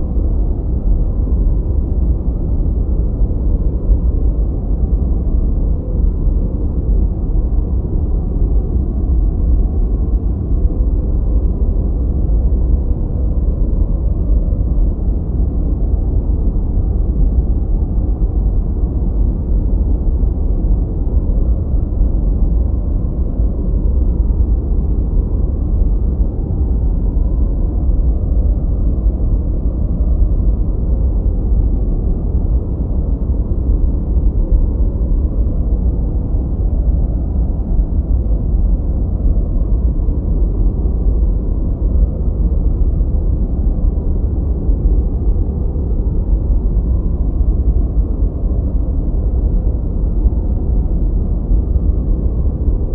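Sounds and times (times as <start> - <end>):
deep rumbling brown noise: 0.0 - 52.9.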